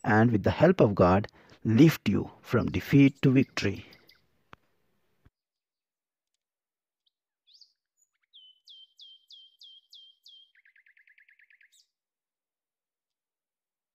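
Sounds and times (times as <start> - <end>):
songbird song: 0.0 - 12.2.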